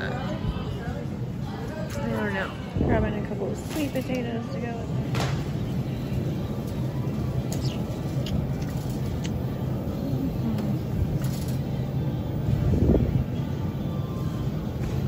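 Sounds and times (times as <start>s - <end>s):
supermarket low rumble: 2.9s - 15.0s.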